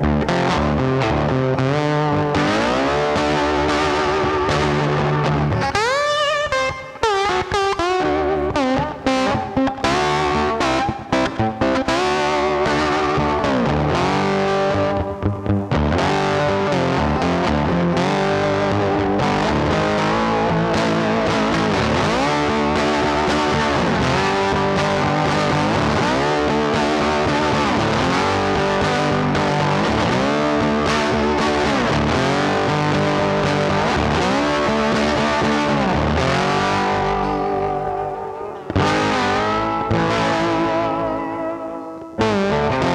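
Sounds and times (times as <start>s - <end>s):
distorted electric guitar riff: 0.0s - 42.9s.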